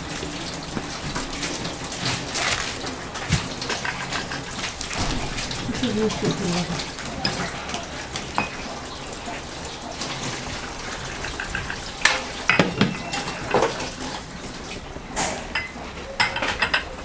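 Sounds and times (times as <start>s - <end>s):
dishes and utensils clinking: 0.0s - 17.0s.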